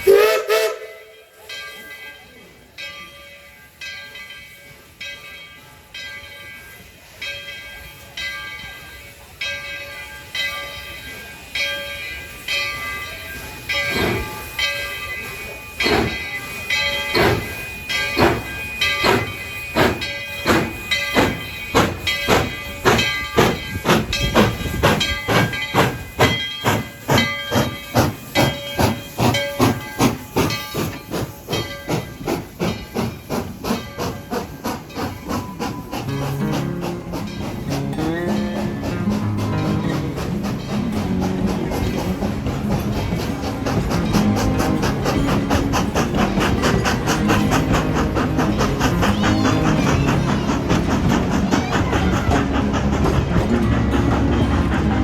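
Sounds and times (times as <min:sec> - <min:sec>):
steam hiss: 0:00.0 - 0:02.5, 0:03.7 - 0:55.0
steam locomotive chuffing: 0:00.0 - 0:03.1, 0:03.7 - 0:55.0.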